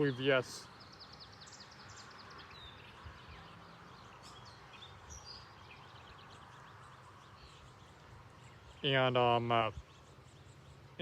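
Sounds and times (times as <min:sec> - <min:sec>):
birds chirping: 0:00.0 - 0:11.0
low steady background hiss: 0:00.0 - 0:11.0.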